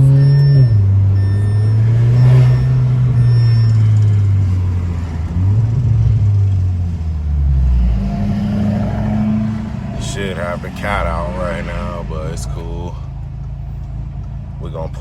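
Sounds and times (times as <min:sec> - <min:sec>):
car engine and exhaust: 0:00.0 - 0:15.0.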